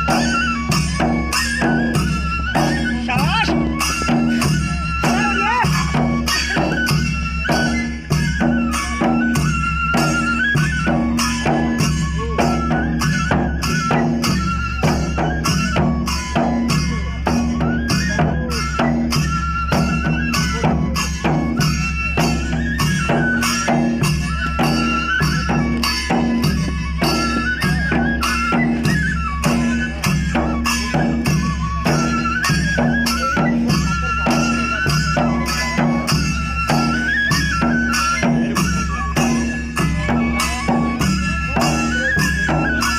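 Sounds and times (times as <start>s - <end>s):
fast steady drum beat: 0.0s - 42.9s
folk music: 0.0s - 42.9s
jingling percussion: 0.0s - 42.9s.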